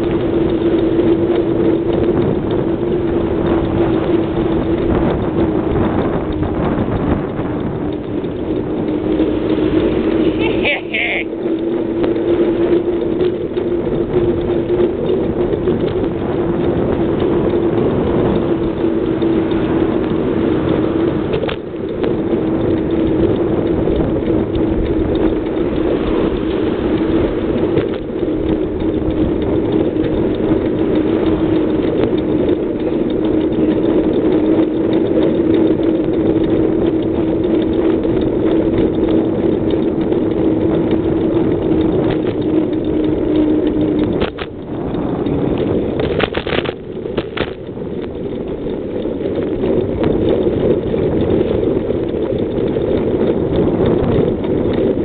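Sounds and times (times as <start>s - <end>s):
sharp clicks: 0.0s - 55.0s
wind rush over microphone: 0.0s - 55.0s.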